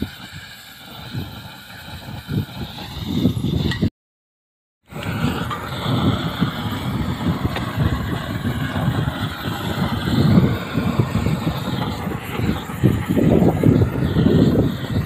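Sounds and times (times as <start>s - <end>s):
roofing torch roaring: 0.0s - 3.9s, 4.8s - 15.0s
wind rumbling on microphone: 0.0s - 3.9s, 4.9s - 15.0s.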